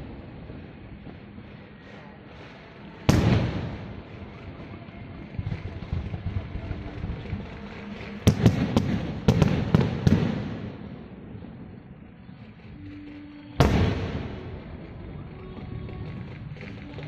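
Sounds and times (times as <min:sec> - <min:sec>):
fireworks bangs with rumbling echo: 0:00.0 - 0:17.0
fireworks crackling: 0:00.0 - 0:17.0.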